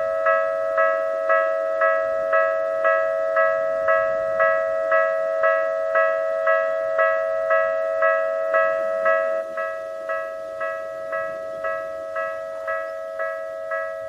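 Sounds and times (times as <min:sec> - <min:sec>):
level crossing warning bell: 0:00.0 - 0:14.0
steady tone: 0:00.0 - 0:14.0.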